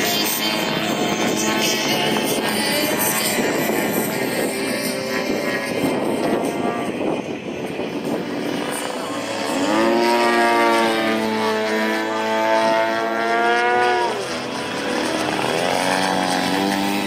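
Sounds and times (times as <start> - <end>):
model airplane engine and propeller: 0.0 - 17.0.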